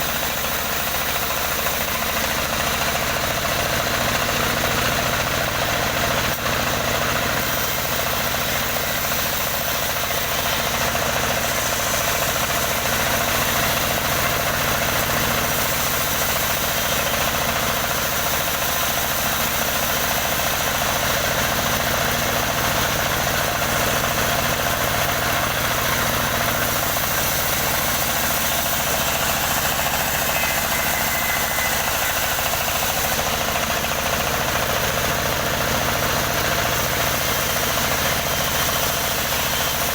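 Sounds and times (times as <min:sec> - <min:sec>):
engine-driven wood saw: 0:00.0 - 0:39.9.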